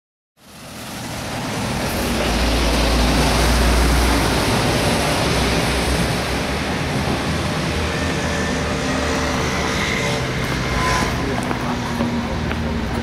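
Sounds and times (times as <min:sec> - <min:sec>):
road traffic rumble: 0:00.4 - 0:13.0.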